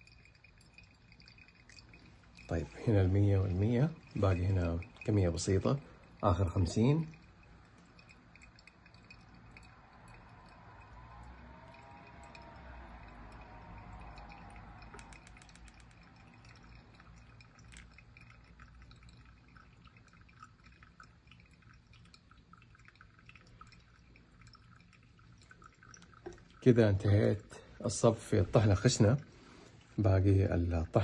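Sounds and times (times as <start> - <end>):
small drips: 0.0 - 31.0
water trickling onto coffee: 0.0 - 31.0.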